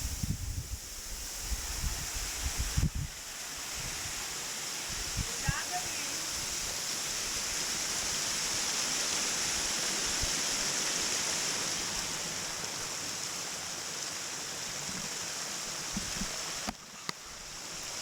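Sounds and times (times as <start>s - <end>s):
waterfall rushing: 0.8s - 18.0s.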